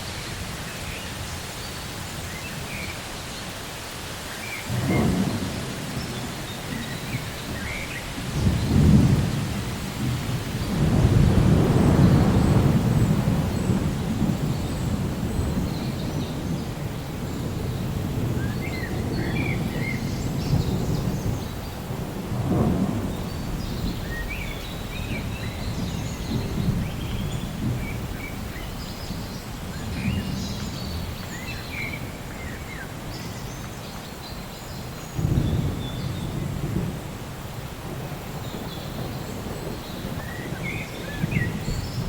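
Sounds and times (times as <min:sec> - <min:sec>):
steady rain: 0:00.0 - 0:42.0
thunder rumbling: 0:04.7 - 0:33.4, 0:35.1 - 0:42.0.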